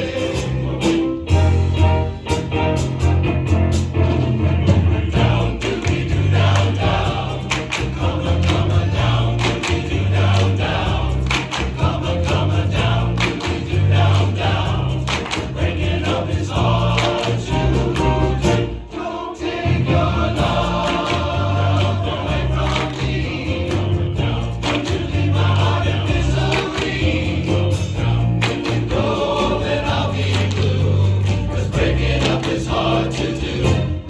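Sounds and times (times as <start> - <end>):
men's chorus singing pop song: 0.0 - 2.0, 4.7 - 34.0
instrumental accompaniment with bass beat: 0.0 - 18.8, 19.8 - 34.0.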